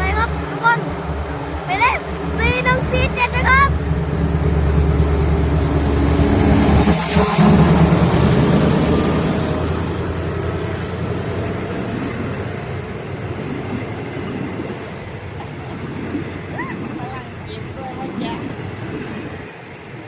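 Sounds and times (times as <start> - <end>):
diesel train passing: 0.0 - 20.0.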